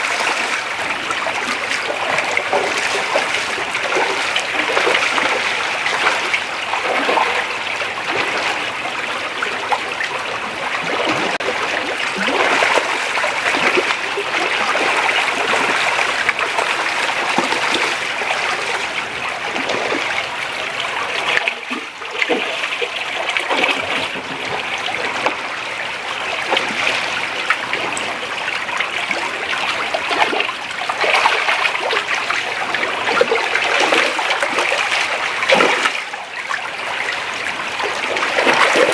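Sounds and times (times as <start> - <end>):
creek water rushing and trickling: 0.0 - 38.9
water splashes: 0.0 - 38.9.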